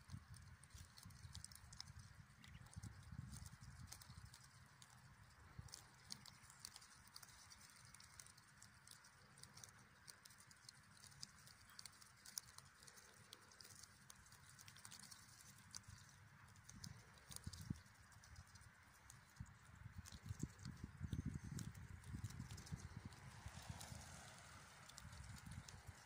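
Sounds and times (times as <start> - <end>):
geese plucking grass: 0.0 - 26.0.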